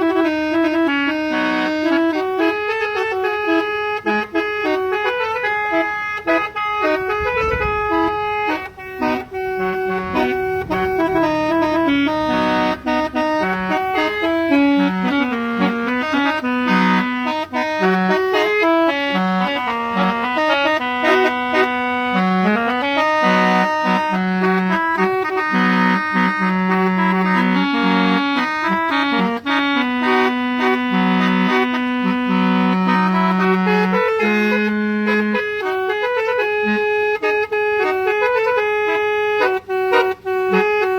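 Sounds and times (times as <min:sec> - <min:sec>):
multi-tone musical horn melody: 0:00.0 - 0:40.9.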